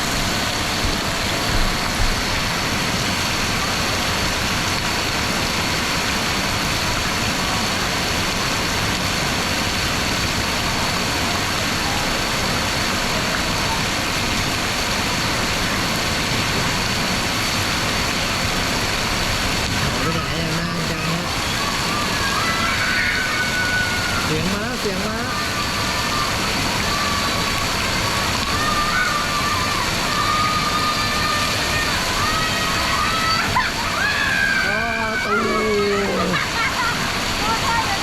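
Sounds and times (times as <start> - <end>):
falling and splashing water: 0.0 - 38.0.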